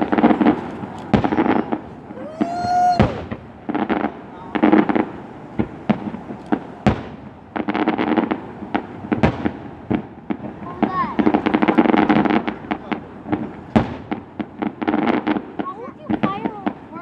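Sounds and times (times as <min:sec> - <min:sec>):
fireworks crackling: 0:00.0 - 0:17.0
fireworks sharp bangs: 0:00.0 - 0:17.0.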